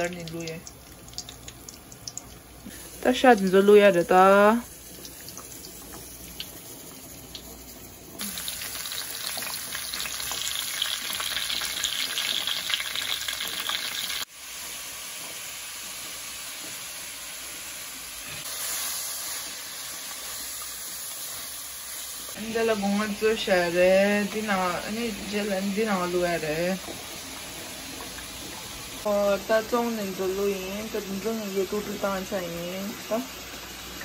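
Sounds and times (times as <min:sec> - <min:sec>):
beef sizzling in hot oil: 0:02.6 - 0:34.0.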